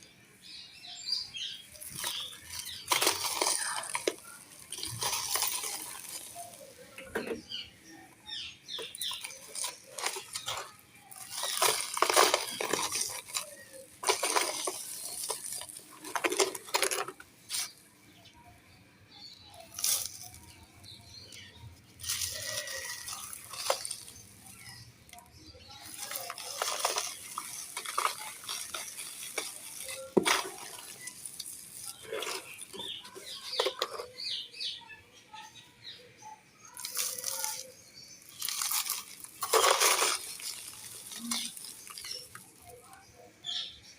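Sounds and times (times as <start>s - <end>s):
dry sand and clay crumbling: 0.0s - 34.8s, 35.5s - 43.9s.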